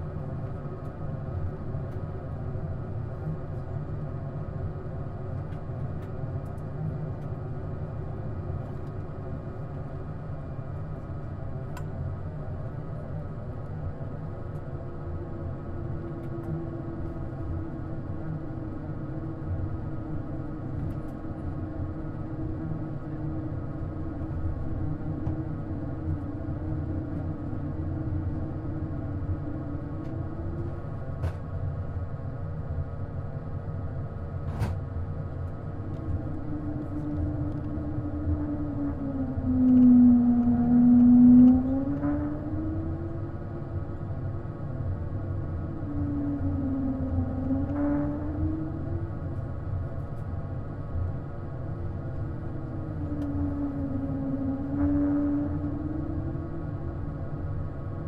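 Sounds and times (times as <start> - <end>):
aircraft cabin engine rumble: 0.0 - 58.0
faint steady hums: 0.0 - 58.0.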